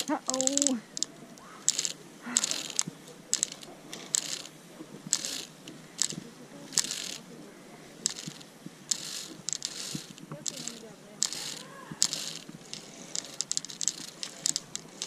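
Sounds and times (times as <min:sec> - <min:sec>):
metal harness clicking and scraping: 0:00.0 - 0:07.3, 0:08.0 - 0:15.0.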